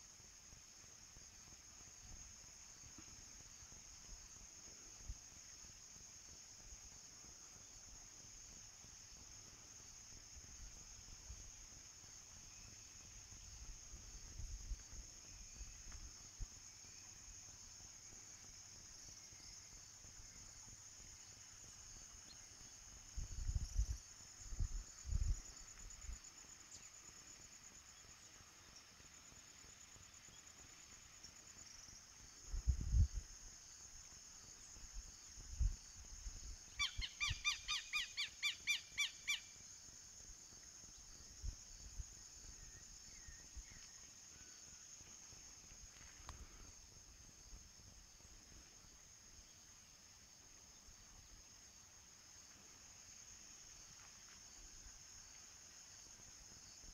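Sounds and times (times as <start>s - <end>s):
insects chirping: 0.0s - 56.9s.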